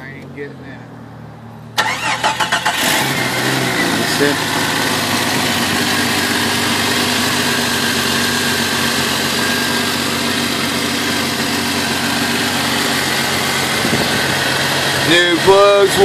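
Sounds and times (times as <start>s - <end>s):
car engine idling: 1.7s - 16.0s.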